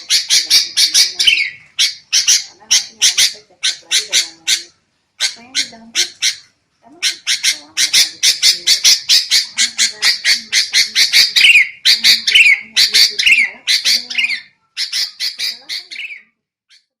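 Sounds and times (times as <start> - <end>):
bird harsh scolding calls: 0.0 - 16.9.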